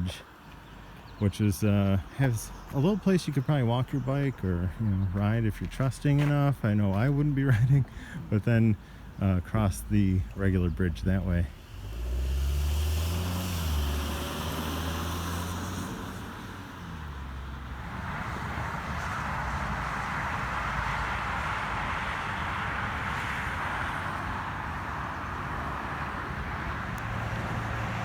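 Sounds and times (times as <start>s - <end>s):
vehicle engine drone: 0.0s - 28.0s.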